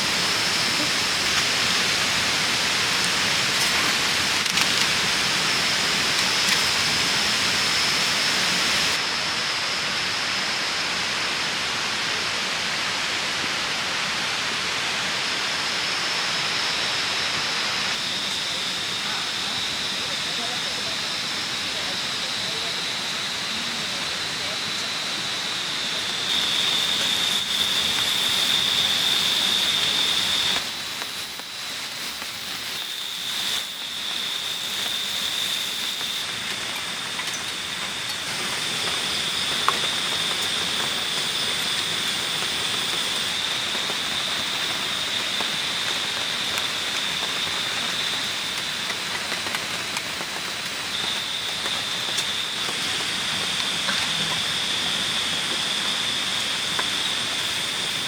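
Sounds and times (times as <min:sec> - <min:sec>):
high insect drone: 0:00.0 - 0:11.4, 0:14.7 - 0:58.0
rushing water hiss: 0:00.0 - 0:58.0.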